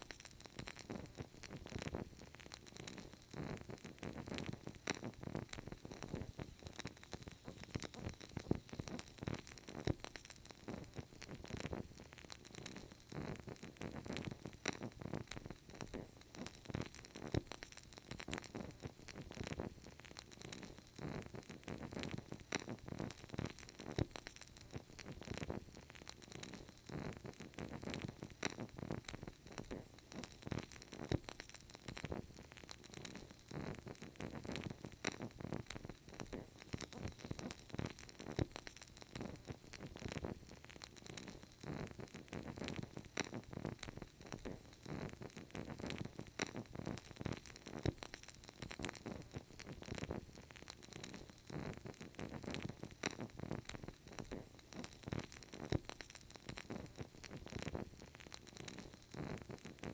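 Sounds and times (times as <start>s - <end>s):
candle crackling: 0.0s - 59.9s.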